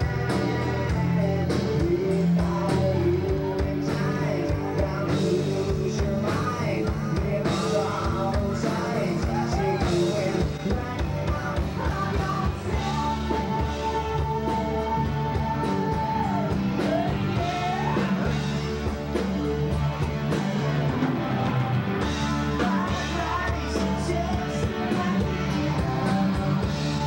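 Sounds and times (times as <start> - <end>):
man singing: 0.0 - 18.9, 22.0 - 27.0
live rock band: 0.0 - 27.0.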